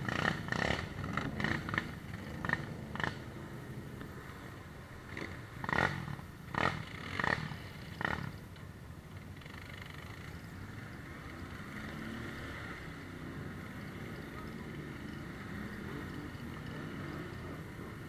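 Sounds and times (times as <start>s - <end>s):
atv engine rumbling: 0.0s - 18.0s.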